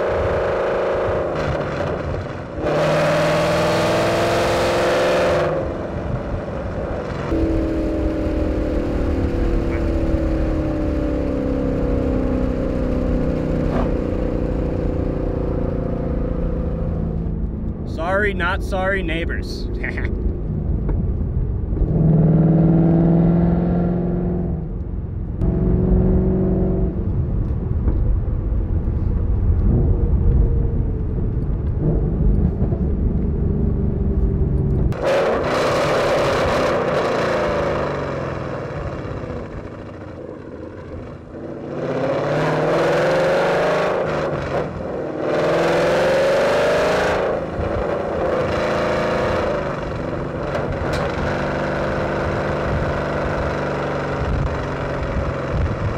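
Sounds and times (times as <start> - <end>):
car accelerating hard: 0.0 - 17.3, 19.8 - 27.6, 28.8 - 55.9
loud car exhaust drone: 0.0 - 55.9.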